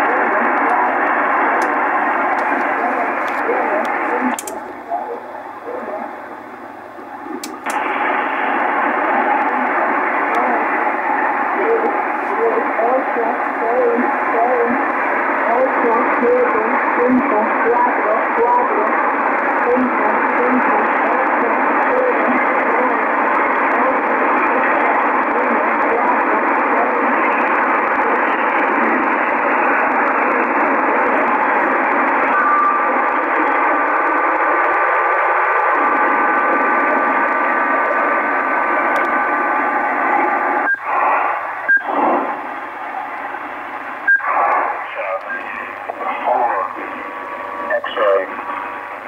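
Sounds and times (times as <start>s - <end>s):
radio static hiss: 0.0s - 49.0s.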